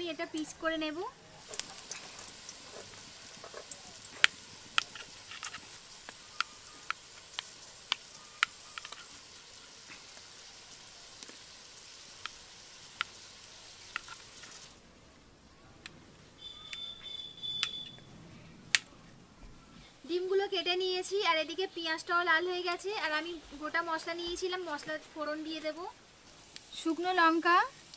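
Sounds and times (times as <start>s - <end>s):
onions sizzling in oil: 0.0s - 14.8s, 20.3s - 27.9s.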